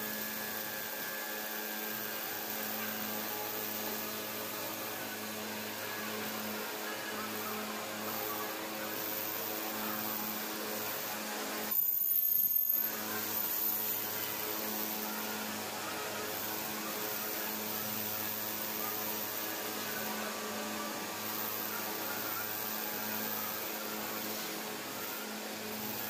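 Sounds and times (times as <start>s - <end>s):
polishing machine motor hum: 0.0s - 11.7s, 12.8s - 26.0s.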